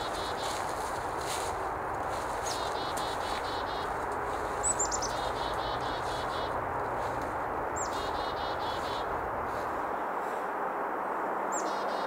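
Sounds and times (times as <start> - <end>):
chickadee calling: 0.0 - 9.7, 11.5 - 12.0
steady background rush: 0.0 - 12.0.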